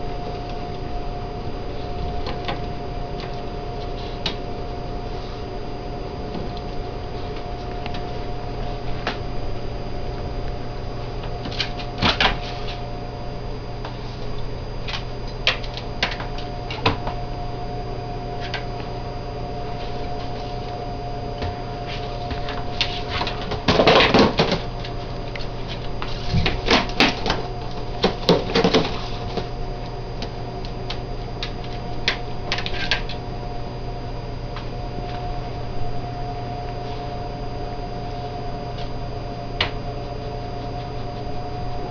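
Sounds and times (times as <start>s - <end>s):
steady electrical hum: 0.0s - 41.9s.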